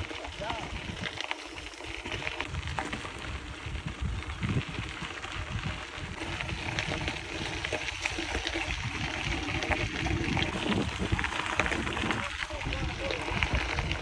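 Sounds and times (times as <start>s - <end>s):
wind on microphone: 0.0s - 1.3s, 2.0s - 14.0s
bike tyres on gravel: 0.0s - 14.0s.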